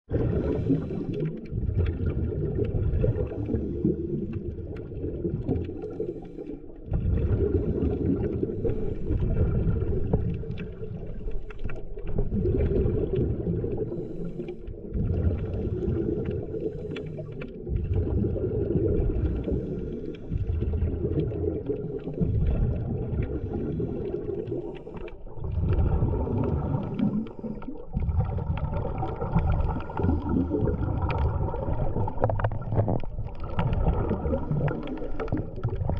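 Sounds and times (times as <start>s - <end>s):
underwater rumble: 0.0s - 35.9s
water bubbling and gurgling: 0.0s - 35.9s.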